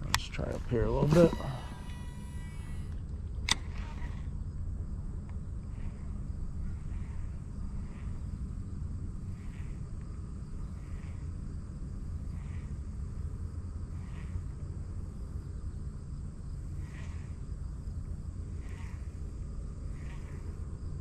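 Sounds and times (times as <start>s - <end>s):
faint insect drone: 0.0s - 21.0s
steady low rumble: 0.0s - 21.0s.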